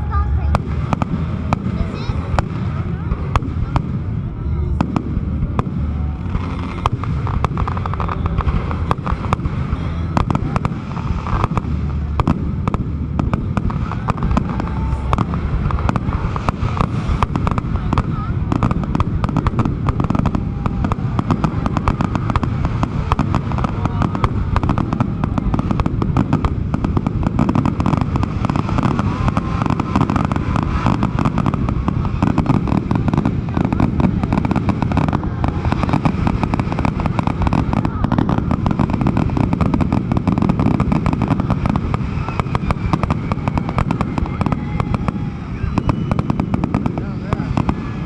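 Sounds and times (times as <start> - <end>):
fireworks bursting and crackling: 0.0 - 48.0.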